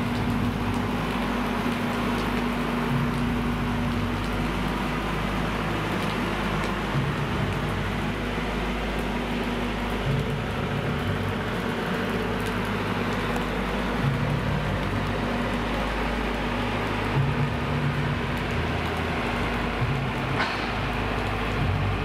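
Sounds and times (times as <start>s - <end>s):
low rumble: 0.0s - 22.0s
standing train mechanical hum: 0.0s - 22.0s.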